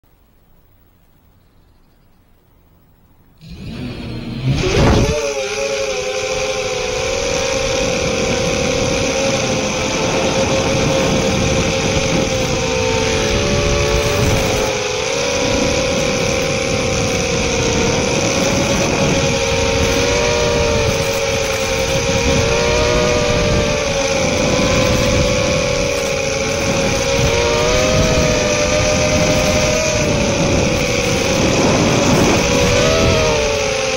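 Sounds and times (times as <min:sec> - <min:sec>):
constant hiss: 0:00.0 - 0:33.9
quadcopter motors whining: 0:03.4 - 0:33.9.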